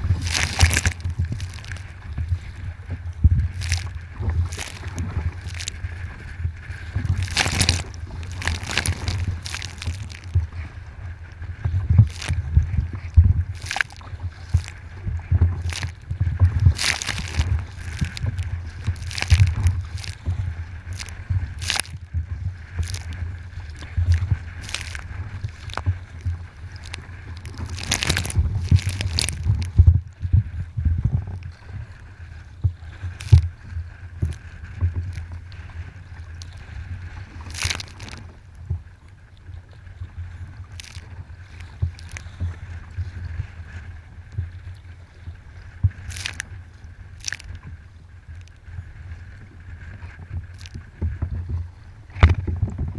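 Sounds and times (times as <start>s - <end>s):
constant low rumble: 0.0s - 52.9s
water sloshing and splashing: 0.0s - 52.9s.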